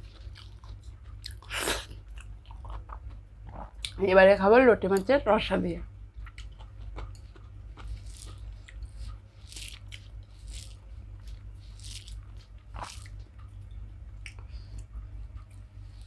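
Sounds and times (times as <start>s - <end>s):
wet chewing and lip smacks: 0.0s - 4.0s, 6.2s - 16.0s
steady low hum: 0.0s - 16.0s.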